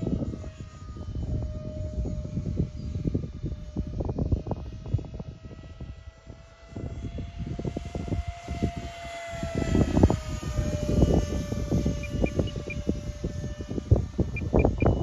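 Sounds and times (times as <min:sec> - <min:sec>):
model jet fan whine: 0:00.0 - 0:15.0
wind buffeting microphone: 0:00.0 - 0:15.0.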